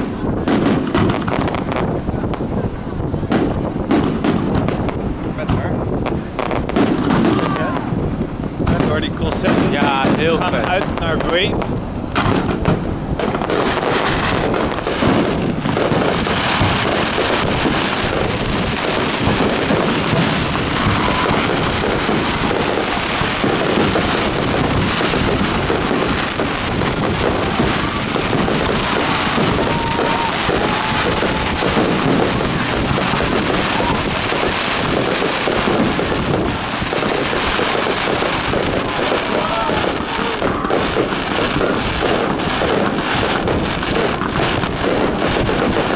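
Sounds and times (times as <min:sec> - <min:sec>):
fireworks bursting: 0:00.0 - 0:45.9
fireworks crackling: 0:00.0 - 0:45.9.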